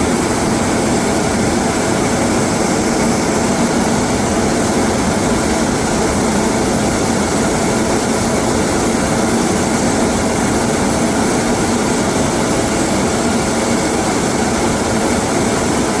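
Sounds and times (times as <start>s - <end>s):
turboprop engines running: 0.0s - 16.0s.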